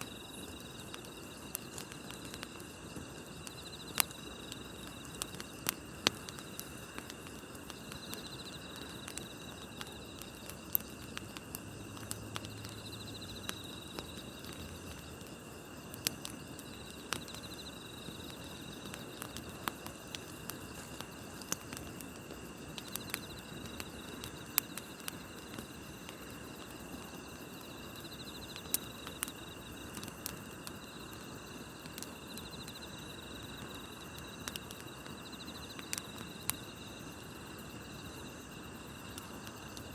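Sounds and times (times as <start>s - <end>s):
campfire crackling and popping: 0.0s - 39.9s
night insects chirping: 0.0s - 39.9s.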